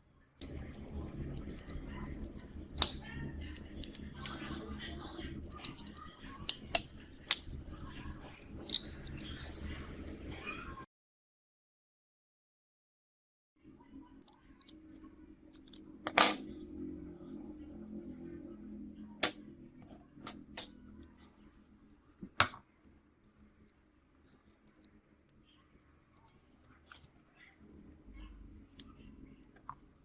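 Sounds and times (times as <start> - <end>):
faint low hum: 0.0 - 10.8, 13.6 - 30.0.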